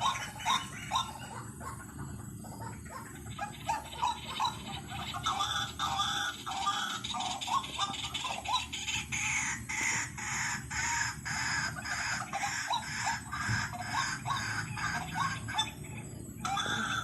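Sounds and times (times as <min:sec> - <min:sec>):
waterhen calling harshly: 0:00.0 - 0:01.4, 0:03.0 - 0:17.0.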